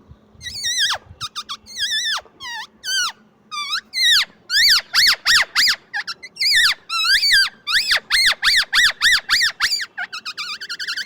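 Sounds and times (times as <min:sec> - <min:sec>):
parakeet screeching: 0:00.4 - 0:11.0.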